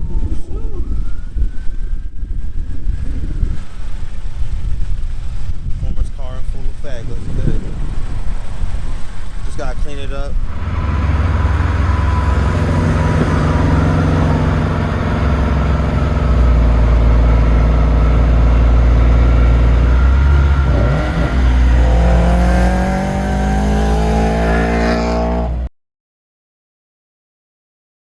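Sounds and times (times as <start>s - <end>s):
car engine accelerating: 2.6s - 25.7s.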